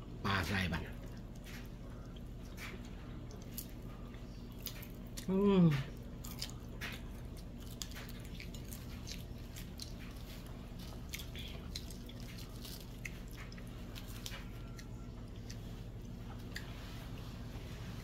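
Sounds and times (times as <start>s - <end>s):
person chewing food: 0.8s - 18.0s.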